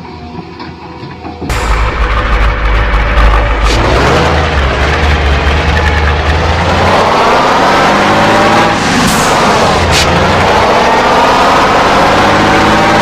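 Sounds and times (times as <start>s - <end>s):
vehicle engine rumbling and revving: 1.5s - 13.0s.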